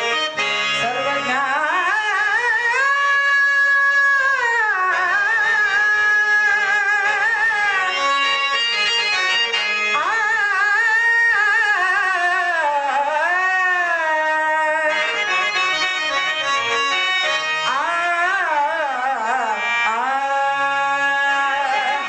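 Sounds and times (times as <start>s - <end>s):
harmonium: 0.0s - 22.0s
person singing devotional song: 0.0s - 22.0s.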